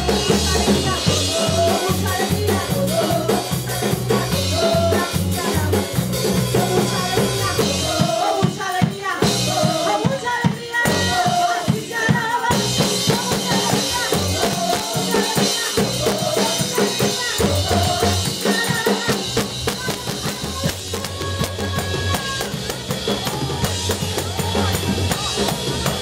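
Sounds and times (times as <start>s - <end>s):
drum kit: 0.0s - 26.0s
keyboard: 0.0s - 26.0s
women singing: 0.0s - 26.0s.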